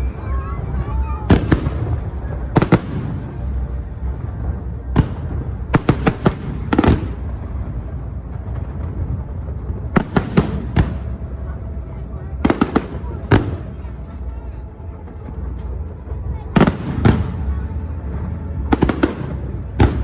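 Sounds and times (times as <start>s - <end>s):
low continuous rumble: 0.0s - 20.0s.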